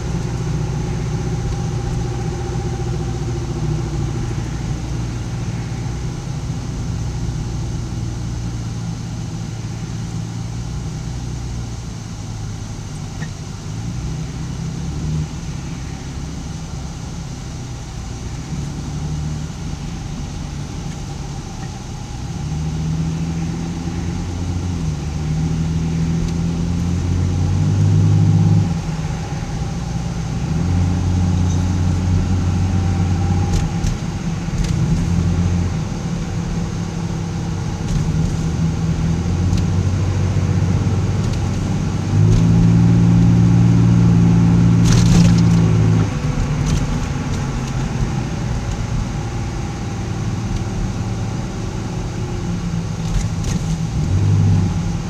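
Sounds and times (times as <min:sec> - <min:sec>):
low droning hum in car: 0:00.0 - 0:55.0.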